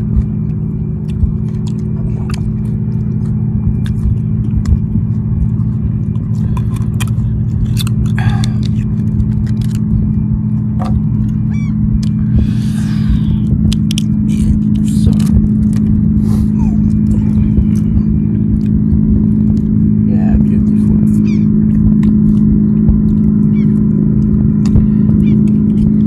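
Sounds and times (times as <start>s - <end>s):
low rumble with hum: 0.0s - 26.0s.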